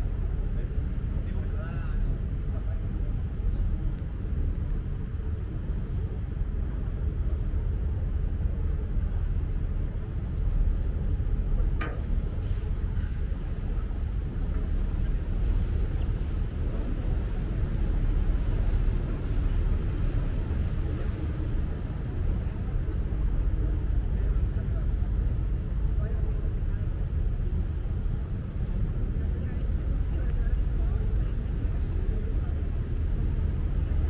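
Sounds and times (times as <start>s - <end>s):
boat engine rumble: 0.0s - 34.0s
water beneath boat: 0.0s - 34.0s.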